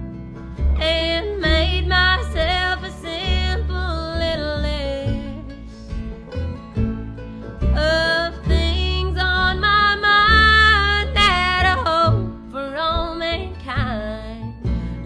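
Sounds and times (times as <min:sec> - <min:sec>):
country band playing: 0:00.0 - 0:15.0.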